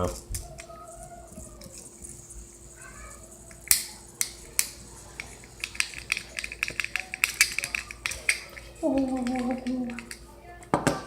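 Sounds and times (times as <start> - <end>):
fidget toy plastic clicks: 0.0 - 10.2.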